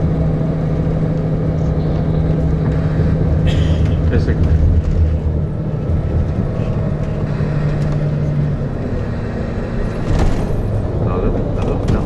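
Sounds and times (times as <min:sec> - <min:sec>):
coach engine and road rumble: 0:00.0 - 0:12.0.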